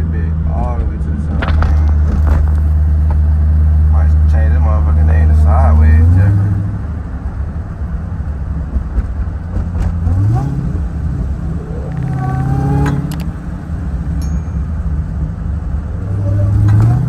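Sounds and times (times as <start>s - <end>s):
car engine revving: 0.9s - 17.0s.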